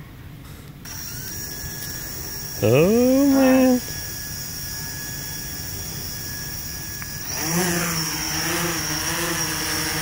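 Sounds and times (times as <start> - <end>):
drone motors buzzing: 0.9 - 10.0.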